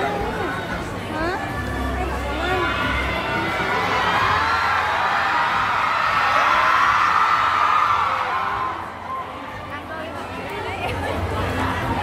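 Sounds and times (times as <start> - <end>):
crowd screaming and cheering: 0.0 - 12.0.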